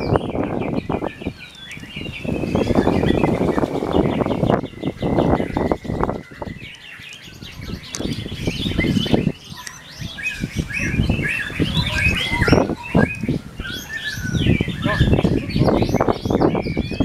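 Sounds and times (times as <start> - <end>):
songbird chirping and warbling: 0.0 - 17.0.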